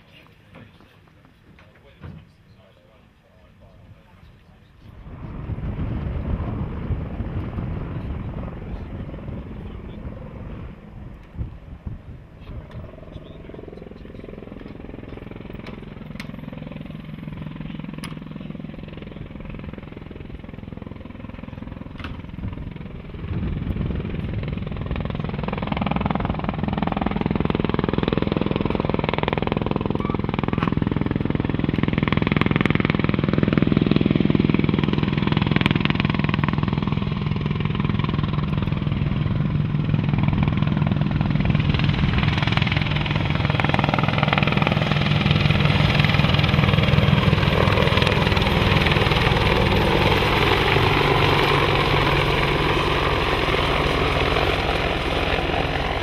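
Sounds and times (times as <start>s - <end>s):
helicopter rotor beat: 3.6s - 56.0s.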